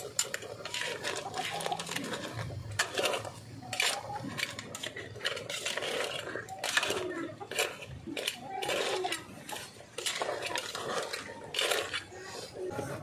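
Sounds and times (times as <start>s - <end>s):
spoon scraping metal pot: 0.0s - 13.0s.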